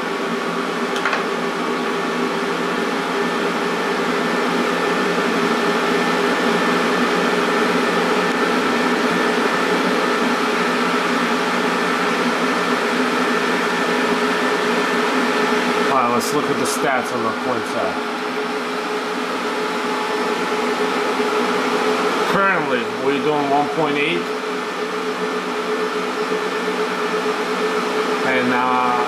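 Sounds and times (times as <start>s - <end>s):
cooling fans rushing and humming: 0.0s - 29.0s.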